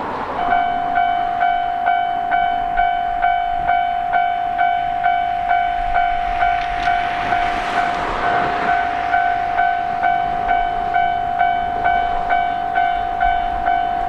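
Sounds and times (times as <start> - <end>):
rushing noise: 0.0 - 13.8.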